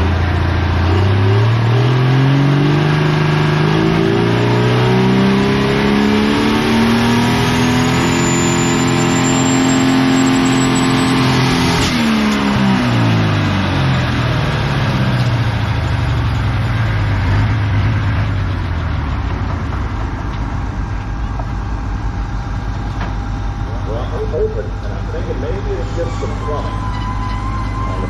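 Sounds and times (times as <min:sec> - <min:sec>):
diesel engine revving: 0:00.0 - 0:28.0
high turbo whine: 0:00.0 - 0:28.0.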